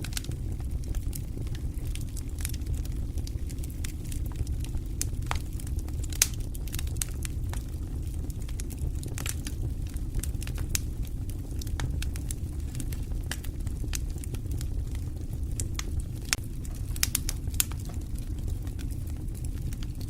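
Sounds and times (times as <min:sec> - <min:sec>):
flames rumbling: 0:00.0 - 0:20.0
logs crackling and popping: 0:00.0 - 0:20.0.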